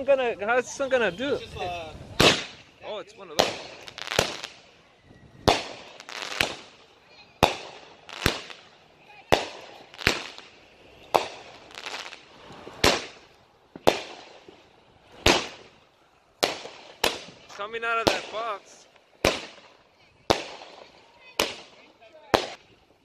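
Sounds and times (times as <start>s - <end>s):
fireworks shots: 1.9s - 15.8s, 16.4s - 22.8s.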